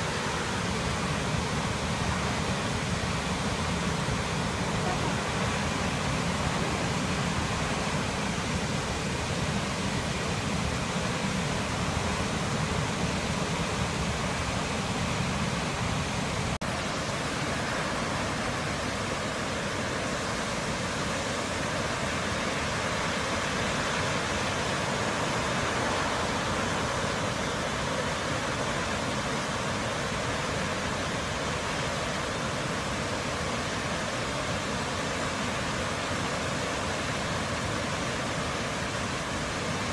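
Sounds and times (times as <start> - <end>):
rushing water roar: 0.0 - 39.9.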